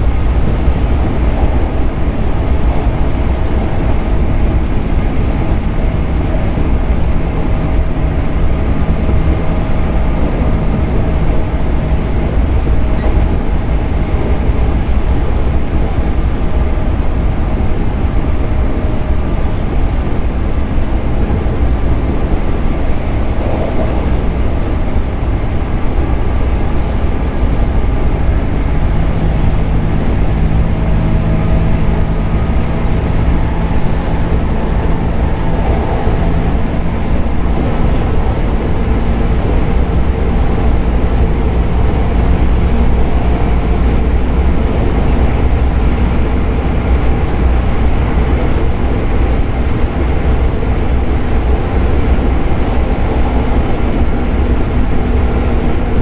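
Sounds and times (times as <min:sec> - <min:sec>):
train low hum: 0:00.0 - 0:56.0
train wheels rumbling on rail: 0:00.0 - 0:56.0.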